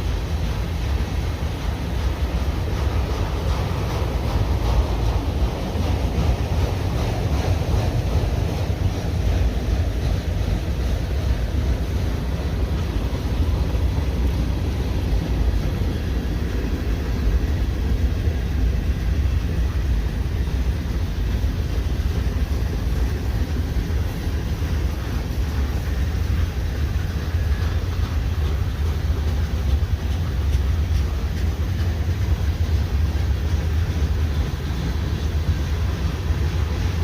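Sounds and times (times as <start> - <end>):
freight train rumbling on rails: 0.0 - 37.0.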